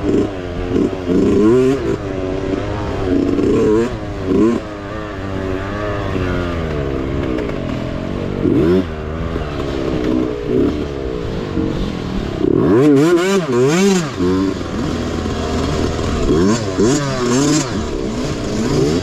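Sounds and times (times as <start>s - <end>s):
mini bike engine revving: 0.0s - 19.0s.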